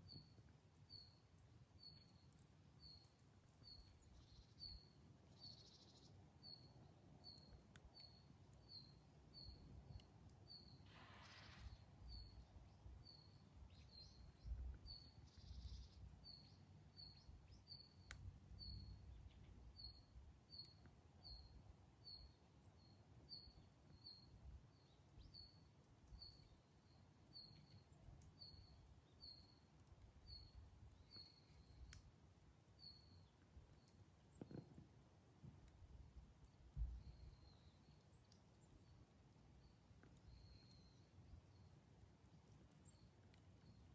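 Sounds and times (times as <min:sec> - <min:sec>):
faint high chirps: 0:00.0 - 0:32.0, 0:36.8 - 0:39.0, 0:39.6 - 0:41.7
campfire crackles: 0:00.0 - 0:43.9.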